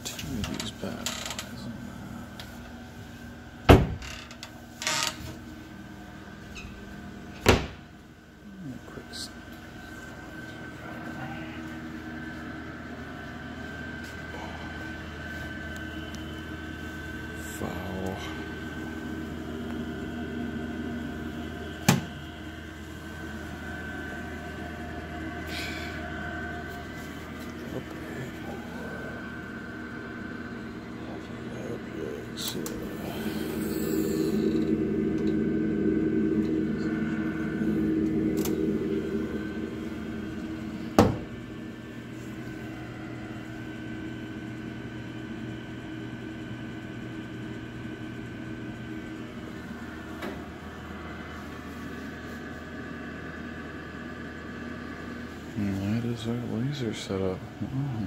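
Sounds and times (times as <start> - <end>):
faint high whine: 0.0 - 58.0
machinery hum: 0.0 - 58.0.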